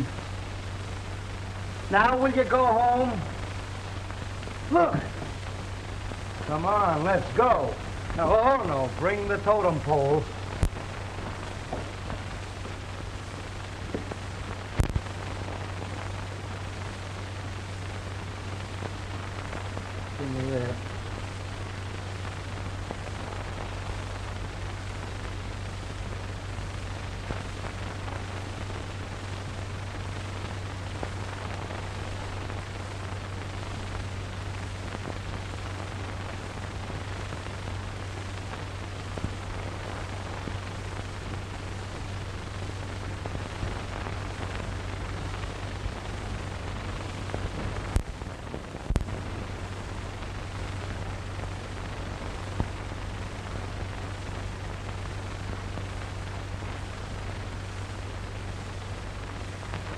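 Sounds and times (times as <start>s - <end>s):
film soundtrack hiss and hum: 0.0s - 59.9s.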